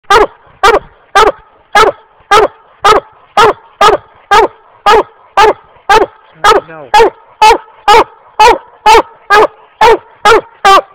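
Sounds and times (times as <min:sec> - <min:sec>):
hound barking: 0:00.1 - 0:10.9.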